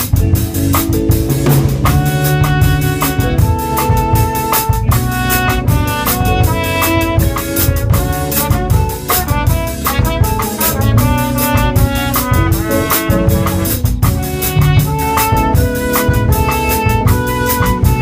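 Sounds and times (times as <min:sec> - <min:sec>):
drum kit keeping time: 0:00.0 - 0:18.0
jazz band playing: 0:00.0 - 0:18.0.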